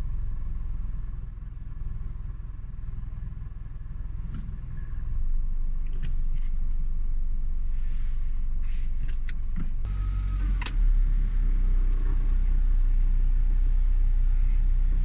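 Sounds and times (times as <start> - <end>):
low pulsing rumble in car cabin: 0.0 - 15.0.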